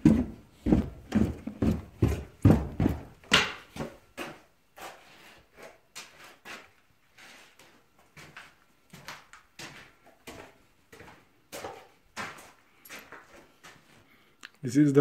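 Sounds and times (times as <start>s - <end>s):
footsteps going down stairs: 0.0s - 14.1s.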